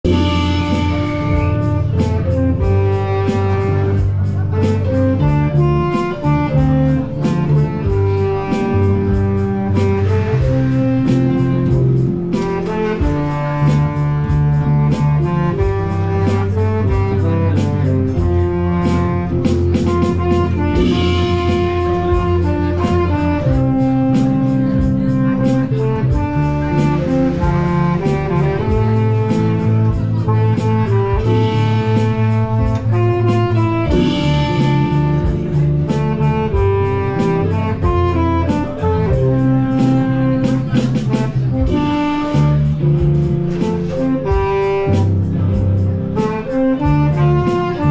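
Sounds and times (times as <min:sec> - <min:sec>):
bass guitar: 0:00.0 - 0:47.9
keyboard melody: 0:00.0 - 0:47.9
steady beat: 0:00.0 - 0:47.9.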